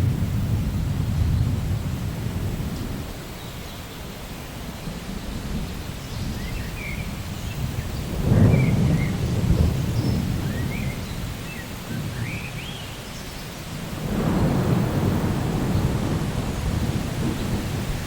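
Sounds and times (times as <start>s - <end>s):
low thunder rumble: 0.0s - 3.4s, 4.7s - 12.7s, 13.5s - 18.0s
rain falling: 0.0s - 18.0s.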